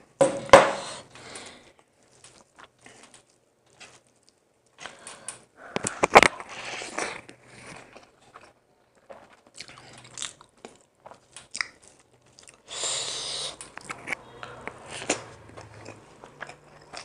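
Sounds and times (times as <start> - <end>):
chewing: 1.4 - 17.0.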